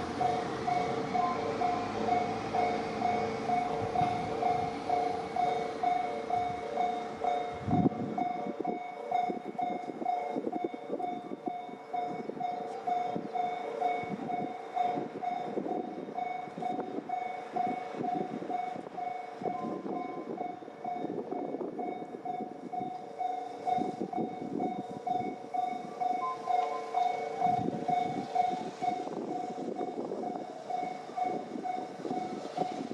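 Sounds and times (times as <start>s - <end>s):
level crossing warning bell: 0.0s - 32.9s
train rumbling and clattering: 0.0s - 32.9s.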